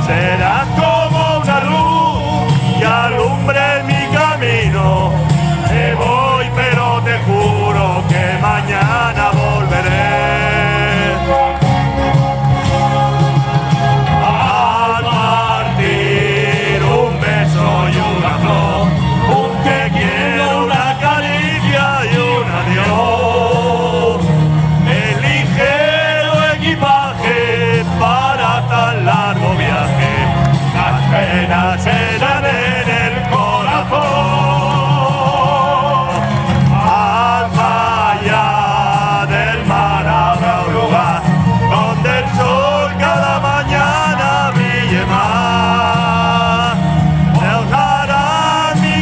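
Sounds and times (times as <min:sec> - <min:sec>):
live band music: 0:00.0 - 0:49.0.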